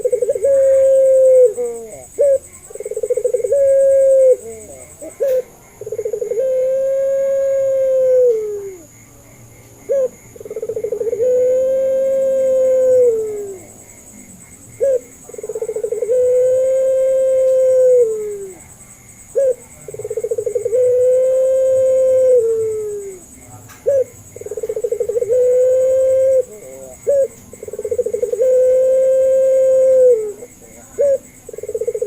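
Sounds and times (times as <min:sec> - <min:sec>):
dove cooing: 0:00.0 - 0:08.9, 0:09.8 - 0:32.0.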